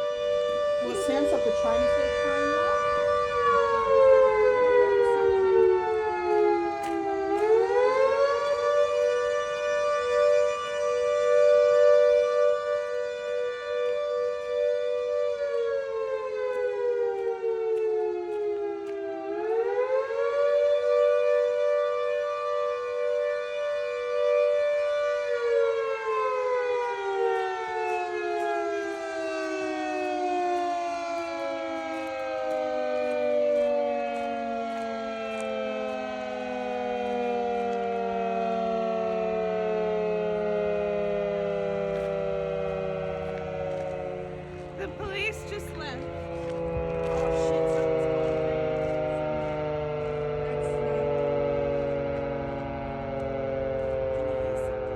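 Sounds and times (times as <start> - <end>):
siren wailing: 0.0 - 54.9.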